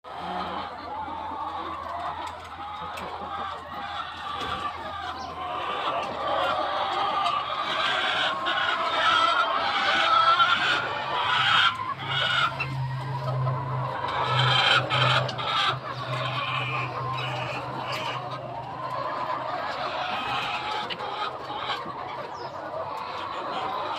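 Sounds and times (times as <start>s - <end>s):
flock of chickens clucking: 0.0s - 23.9s.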